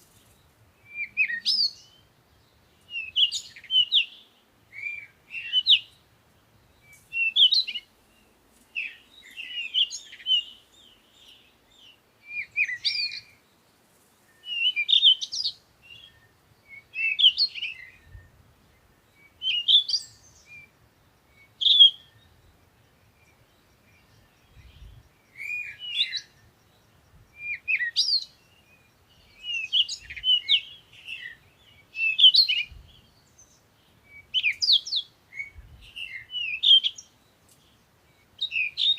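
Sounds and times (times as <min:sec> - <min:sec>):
songbirds twittering: 0:00.0 - 0:38.9.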